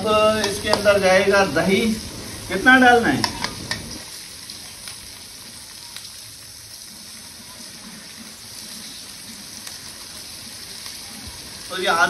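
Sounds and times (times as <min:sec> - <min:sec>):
peas sizzling in oil: 0:00.0 - 0:12.0.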